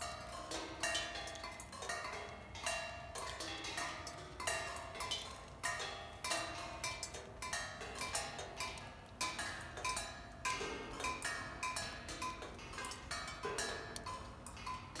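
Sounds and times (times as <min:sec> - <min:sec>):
rain pinging on metal cymbals: 0:00.0 - 0:15.0.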